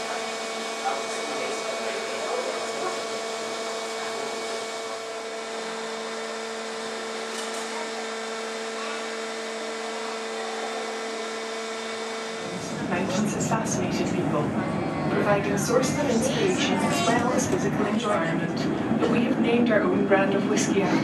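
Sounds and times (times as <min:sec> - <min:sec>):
machine hum and whirr: 0:00.0 - 0:21.0.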